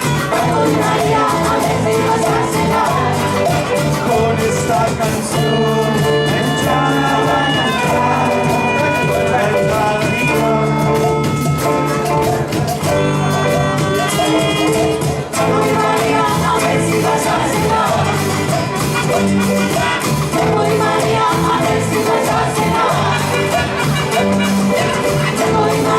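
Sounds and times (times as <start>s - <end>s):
bass line: 0.0s - 25.9s
drums: 0.0s - 25.9s
live band playing: 0.0s - 25.9s.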